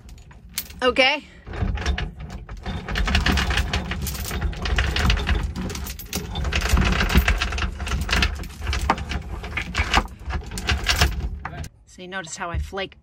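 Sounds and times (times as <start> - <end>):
anchor chain clinking and rattling: 0.0 - 11.7.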